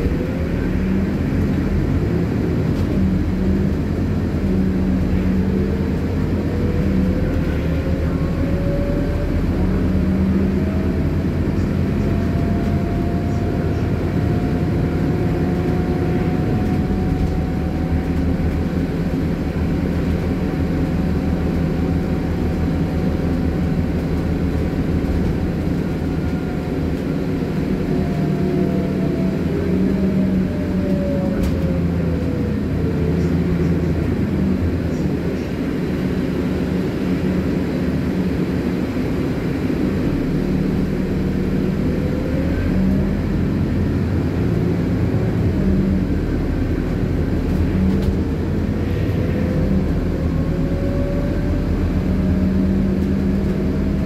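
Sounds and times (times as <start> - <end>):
bus engine and drivetrain hum: 0.0 - 54.0
bus whine rising in pitch: 0.0 - 54.0.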